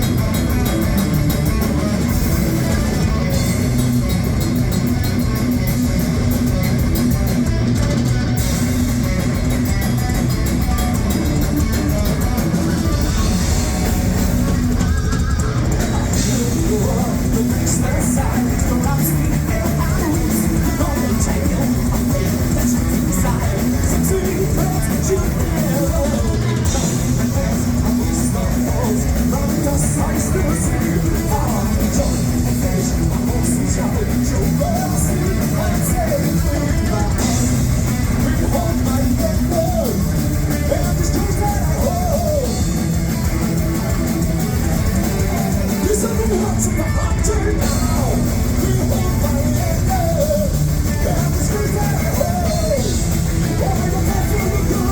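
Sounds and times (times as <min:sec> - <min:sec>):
distorted electric guitars: 0:00.0 - 0:54.9
drum kit: 0:00.0 - 0:54.9
sung vocals: 0:00.0 - 0:54.9.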